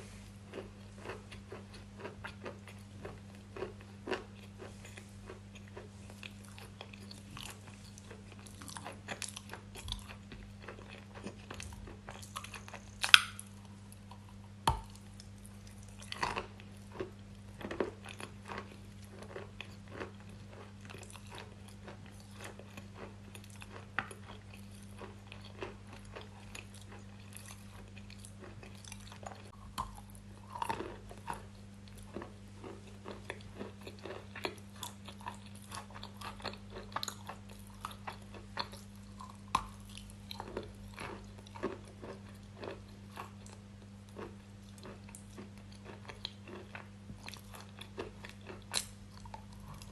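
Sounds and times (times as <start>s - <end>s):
chewing crunchy food: 0.0s - 49.9s
low electrical hum: 0.0s - 49.9s.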